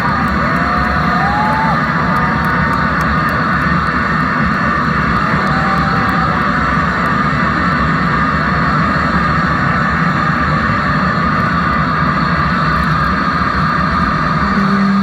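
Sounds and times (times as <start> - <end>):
crowd cheering and applauding: 0.0 - 15.0.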